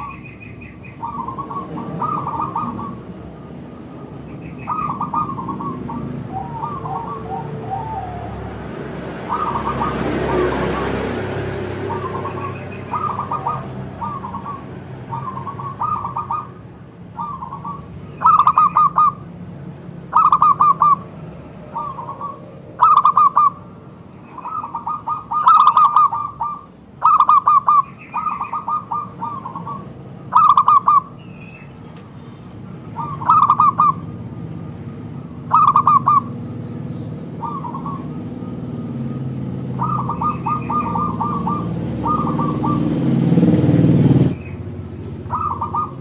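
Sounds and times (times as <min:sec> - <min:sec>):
dove cooing: 0:00.0 - 0:19.3, 0:20.0 - 0:31.2, 0:32.9 - 0:34.4, 0:35.2 - 0:44.4, 0:45.2 - 0:46.0.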